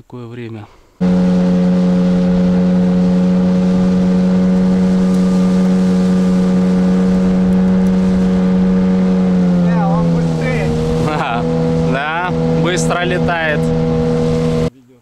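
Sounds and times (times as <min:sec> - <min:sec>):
outboard motor running: 0:01.0 - 0:14.7.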